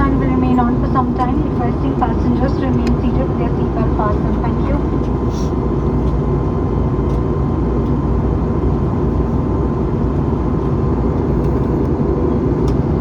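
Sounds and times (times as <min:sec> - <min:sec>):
faint steady hum: 0:00.0 - 0:13.0
jet cabin engine rumble: 0:00.0 - 0:13.0.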